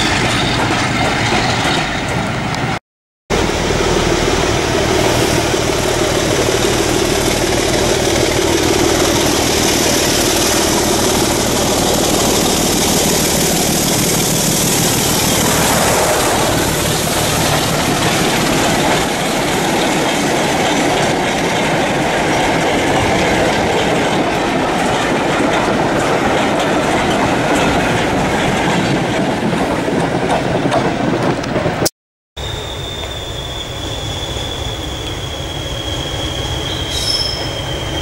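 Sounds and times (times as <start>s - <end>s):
diesel locomotive engine: 0.0s - 38.0s.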